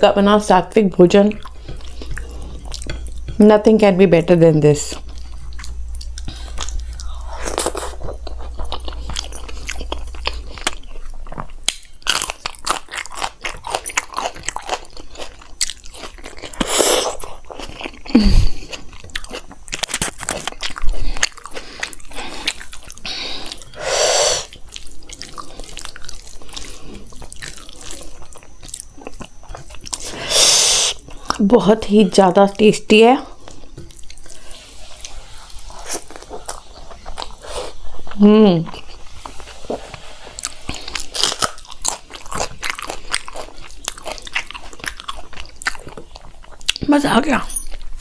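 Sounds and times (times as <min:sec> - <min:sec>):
chewing and crunching: 0:01.0 - 0:03.4, 0:04.4 - 0:23.8, 0:24.4 - 0:32.2, 0:33.0 - 0:48.0.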